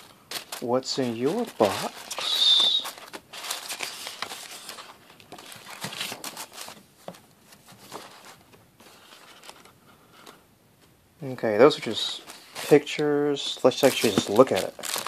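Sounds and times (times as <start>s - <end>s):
paper rustling and crinkling: 0.0s - 10.4s, 11.8s - 15.0s.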